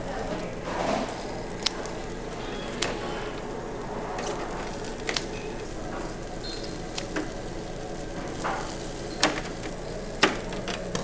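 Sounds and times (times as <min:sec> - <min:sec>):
eel sizzling on a grill: 0:00.0 - 0:11.0.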